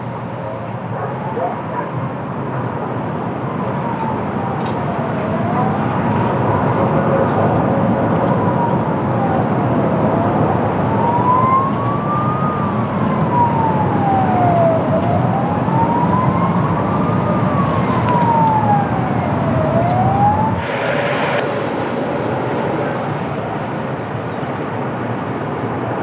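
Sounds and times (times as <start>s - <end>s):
wailing siren: 0.3s - 20.7s, 24.4s - 26.0s.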